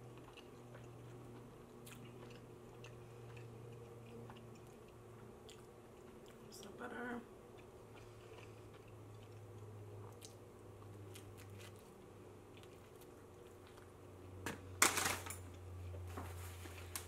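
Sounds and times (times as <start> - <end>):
person chewing pizza crust: 0.0 - 6.8, 7.4 - 14.4
steady low hum: 0.0 - 17.0.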